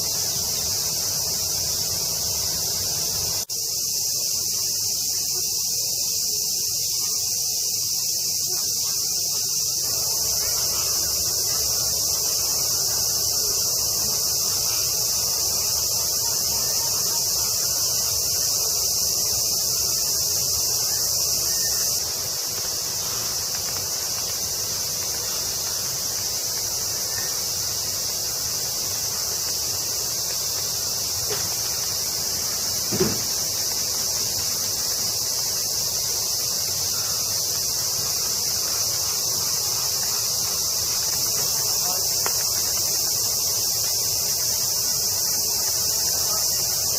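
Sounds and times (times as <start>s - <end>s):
high-pitched insect chorus: 0.0s - 46.9s.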